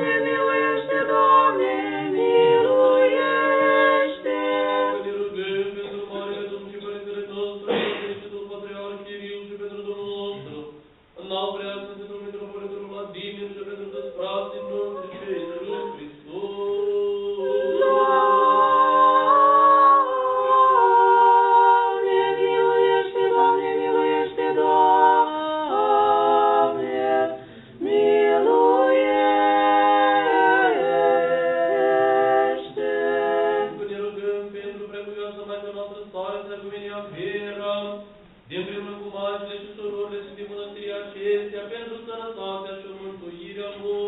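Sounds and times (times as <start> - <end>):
choir singing unaccompanied: 0.0 - 35.5.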